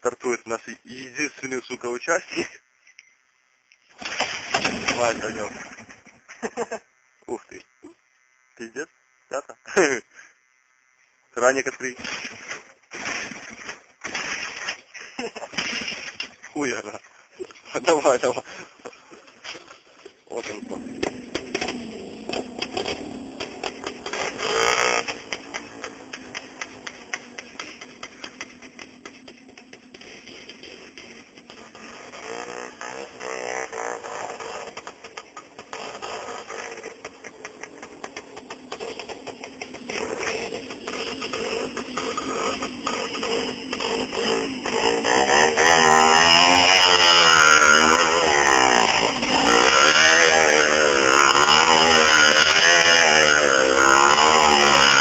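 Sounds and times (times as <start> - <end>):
two-stroke motorcycle engine popping: 0.0 - 8.2, 11.4 - 55.0.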